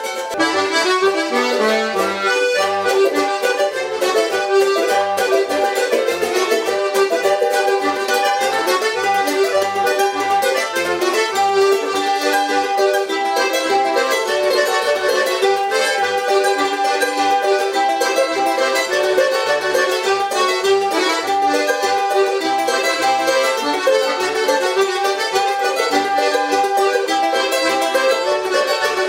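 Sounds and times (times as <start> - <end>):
charango playing a reel: 0.0 - 29.0.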